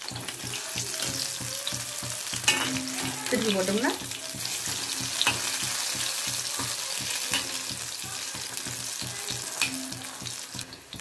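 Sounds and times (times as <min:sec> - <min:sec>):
batter deep-frying in oil: 0:00.0 - 0:11.0.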